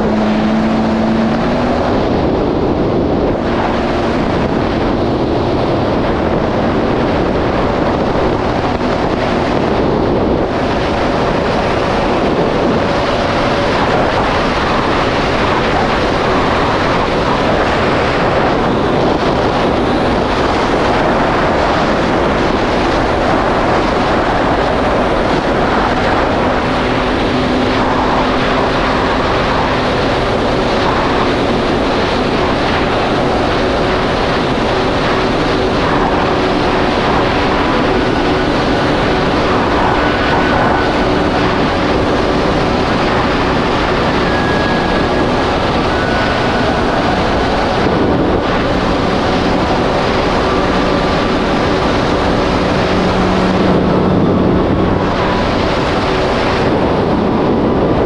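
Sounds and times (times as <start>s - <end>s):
jet ski engine running: 0.0s - 58.0s
rushing water: 0.0s - 58.0s
wind: 0.0s - 58.0s.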